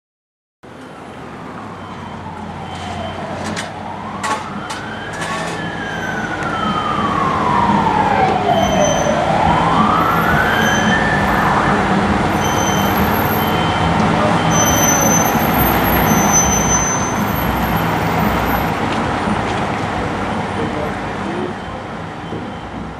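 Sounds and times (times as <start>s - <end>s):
truck engine: 0.6s - 22.9s
fire engine siren wailing: 0.9s - 22.9s.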